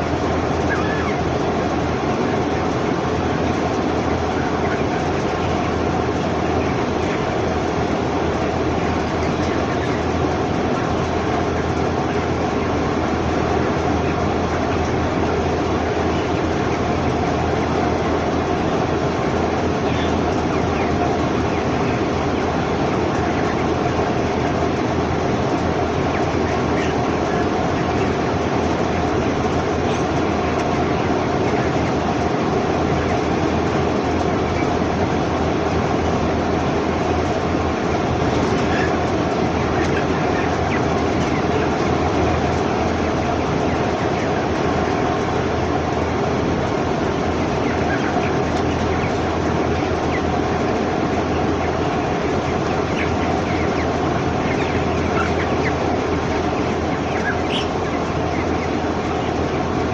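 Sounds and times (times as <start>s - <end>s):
chick high peeps: 0.0s - 59.9s
chickens chattering: 0.0s - 59.9s.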